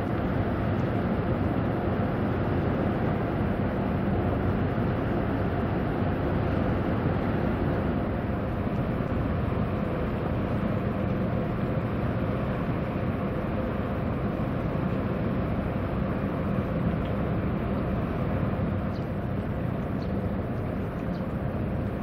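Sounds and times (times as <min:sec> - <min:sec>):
ship engines rumbling: 0:00.0 - 0:22.0.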